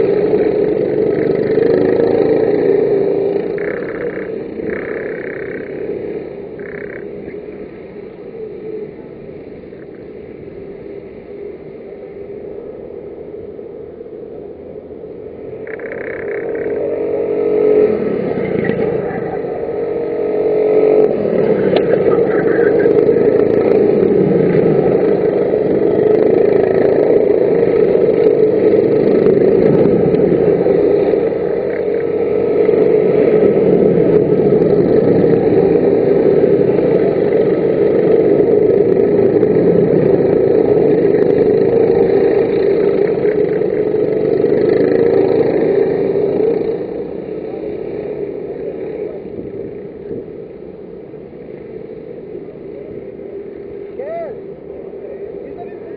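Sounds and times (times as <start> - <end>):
racing kart engines: 0.0 - 55.9.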